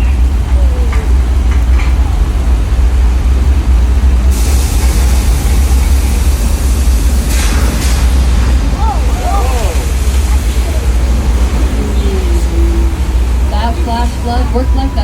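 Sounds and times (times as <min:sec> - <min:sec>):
steady low rumble: 0:00.0 - 0:15.0
artificial rain pouring: 0:00.2 - 0:15.0.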